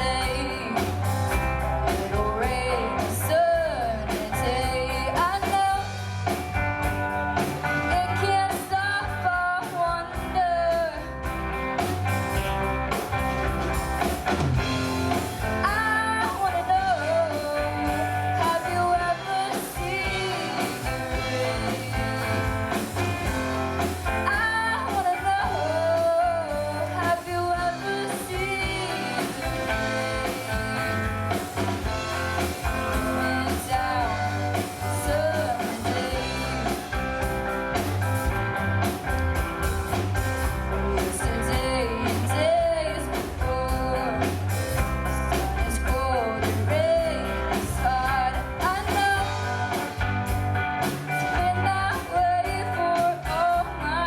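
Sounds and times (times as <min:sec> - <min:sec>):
person singing: 0:00.0 - 0:06.1, 0:07.7 - 0:11.3, 0:15.1 - 0:37.0, 0:40.7 - 0:50.1, 0:51.1 - 0:54.0
live rock band: 0:00.0 - 0:54.0.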